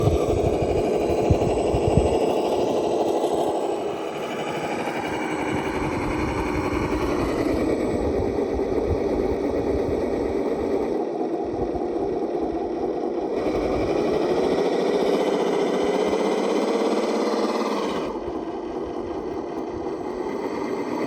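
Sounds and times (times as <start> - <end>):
electric motor gear whine: 0.0 - 21.0.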